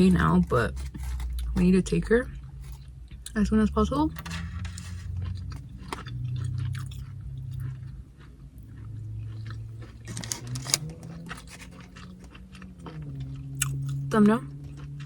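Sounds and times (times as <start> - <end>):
low steady hum: 0.0 - 15.0
chewing crunchy chips: 0.1 - 3.4, 4.2 - 15.0.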